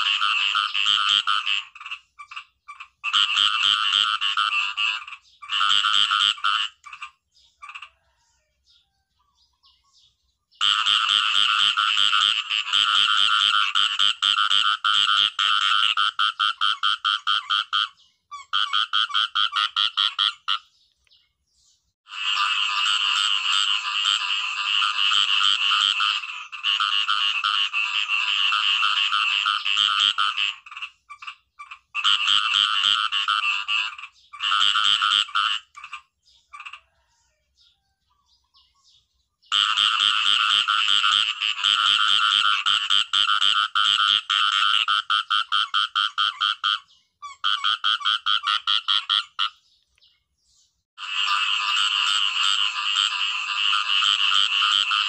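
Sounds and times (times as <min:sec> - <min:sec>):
frogs croaking: 0:00.0 - 0:08.2, 0:10.6 - 0:20.7, 0:22.1 - 0:37.1, 0:39.5 - 0:49.6, 0:51.0 - 0:55.0.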